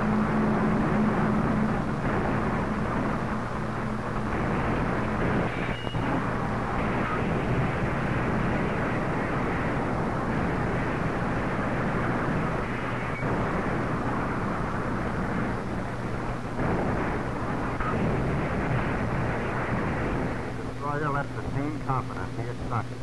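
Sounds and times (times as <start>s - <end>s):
low rumble: 0.0s - 22.2s
constant hum: 0.0s - 23.0s.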